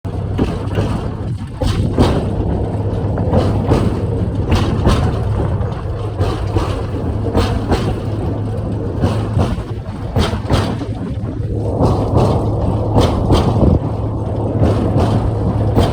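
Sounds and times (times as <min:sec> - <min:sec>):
train engine hum: 0:00.0 - 0:15.9
train clacking and rattling: 0:00.1 - 0:15.9.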